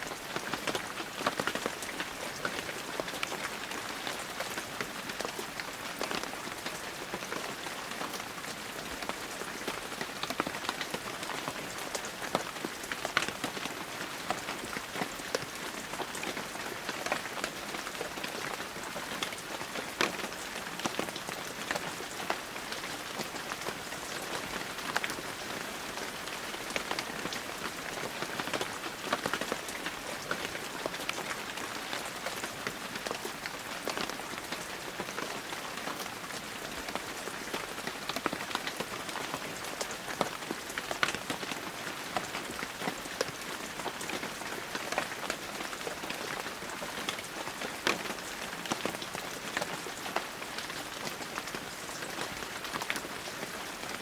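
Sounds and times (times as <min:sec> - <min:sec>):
heavy rain: 0:00.0 - 0:54.0
raindrops ticking on surfaces: 0:00.0 - 0:54.0.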